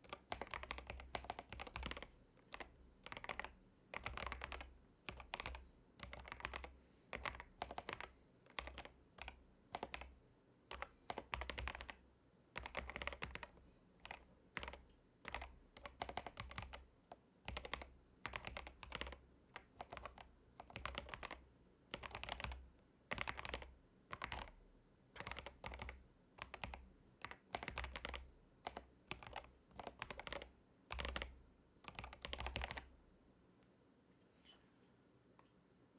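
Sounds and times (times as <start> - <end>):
fast typing on mechanical keyboard: 0.0 - 10.1, 10.7 - 12.0, 12.6 - 16.9, 17.5 - 24.6, 25.2 - 32.9.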